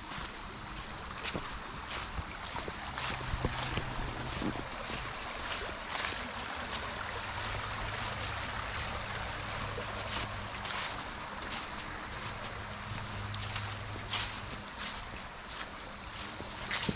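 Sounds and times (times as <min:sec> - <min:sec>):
footsteps through dry leaves: 0:00.0 - 0:16.9
stream babbling: 0:00.0 - 0:16.9.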